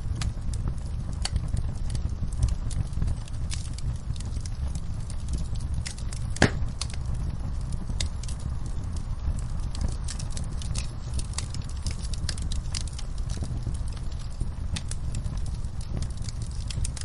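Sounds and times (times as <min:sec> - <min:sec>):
fireplace fire crackling and popping: 0:00.0 - 0:17.0
low steady rumble: 0:00.0 - 0:17.0.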